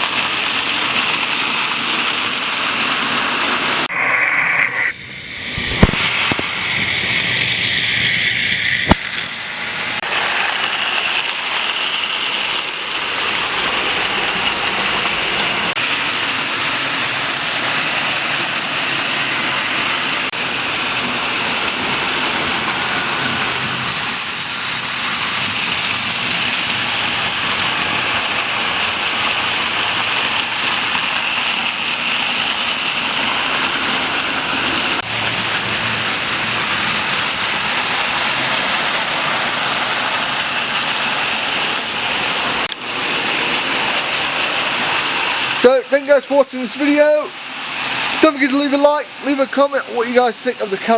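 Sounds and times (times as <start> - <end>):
model train rattling along track: 0.0 - 3.9, 8.9 - 50.9.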